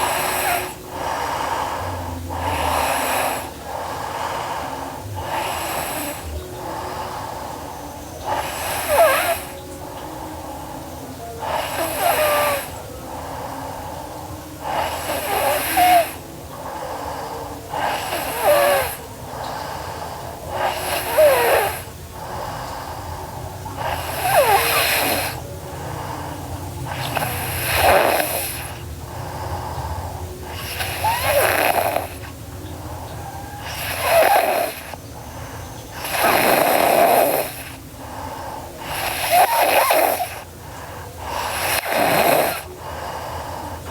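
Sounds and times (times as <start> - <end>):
girl snoring: 0.0 - 43.9.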